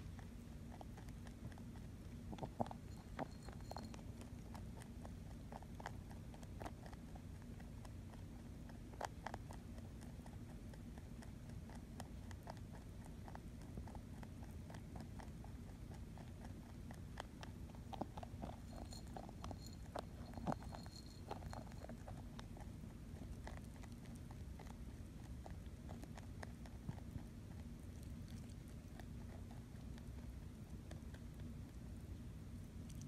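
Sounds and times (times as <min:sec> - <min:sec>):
faint low hum: 0:00.0 - 0:33.0
rabbit crunching food pellets: 0:00.0 - 0:33.0.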